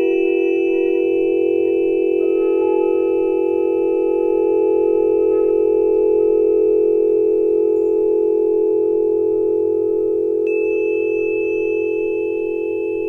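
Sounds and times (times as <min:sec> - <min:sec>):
sustained electronic tone with low hum: 0:00.0 - 0:13.0.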